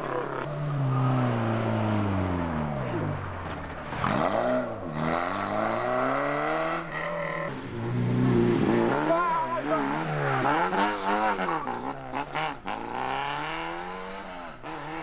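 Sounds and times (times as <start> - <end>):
rally car engine revving past: 0.0 - 15.0.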